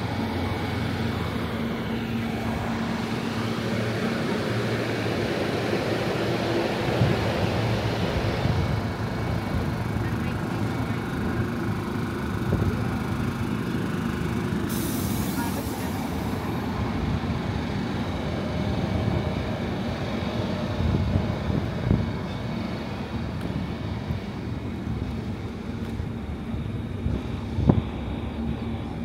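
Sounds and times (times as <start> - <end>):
outdoor background noise: 0.0 - 29.0
train engines idling hum: 0.0 - 29.0.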